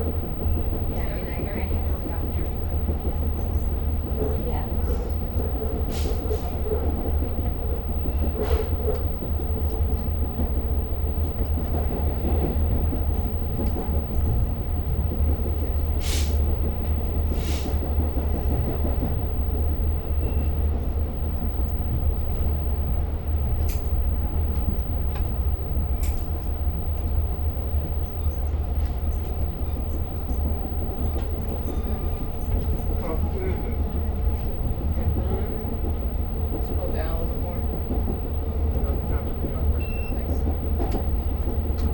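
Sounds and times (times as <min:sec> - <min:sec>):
train rumbling inside car: 0:00.0 - 0:41.9.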